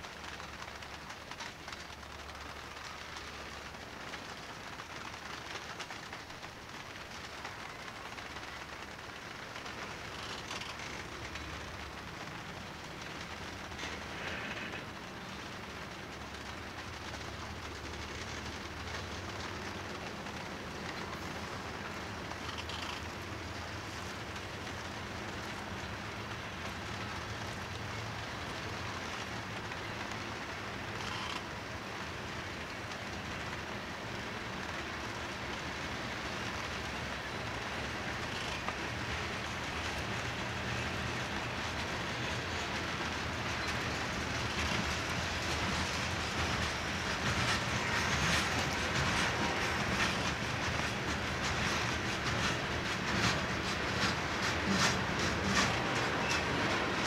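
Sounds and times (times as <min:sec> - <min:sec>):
freight train rumbling past: 0:00.0 - 0:57.0
steel wheels clicking on rails: 0:00.0 - 0:57.0.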